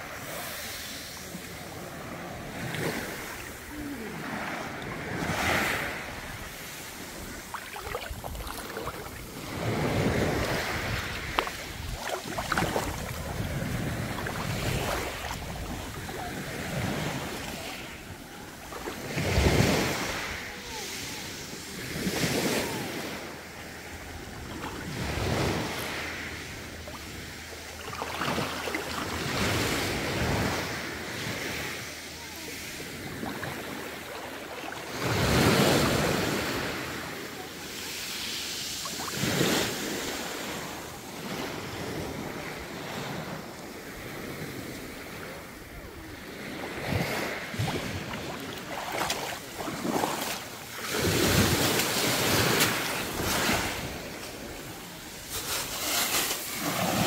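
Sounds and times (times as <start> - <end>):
small waves on pebble beach: 0.0 - 57.0.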